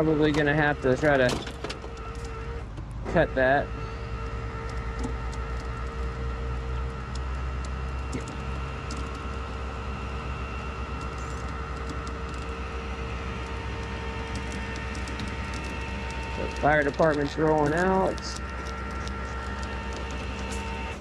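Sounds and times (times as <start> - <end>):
steady whine: 0.0 - 21.0
truck engine idling: 0.0 - 21.0.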